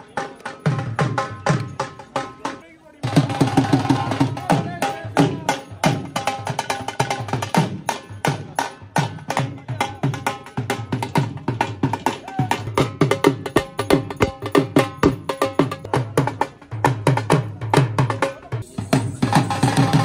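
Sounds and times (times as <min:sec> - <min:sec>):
dhol drum fast rhythm: 0:00.0 - 0:20.0.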